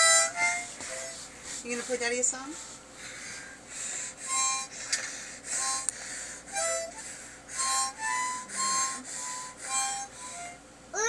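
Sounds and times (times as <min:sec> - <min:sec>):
child blowing a harmonica: 0:00.0 - 0:01.9, 0:02.9 - 0:11.0.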